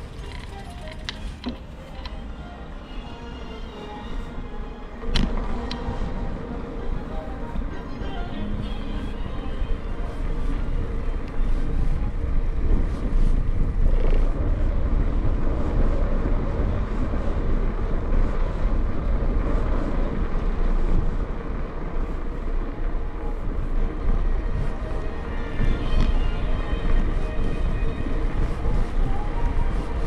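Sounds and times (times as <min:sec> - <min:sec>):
bicycle road noise: 0:00.0 - 0:30.0
rumbling wind: 0:00.0 - 0:30.0.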